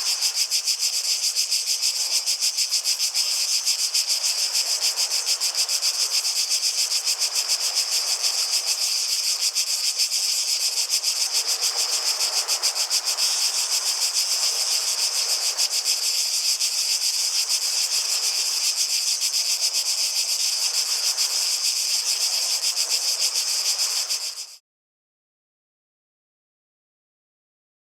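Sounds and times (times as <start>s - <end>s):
cicadas chorus: 0.0s - 24.6s.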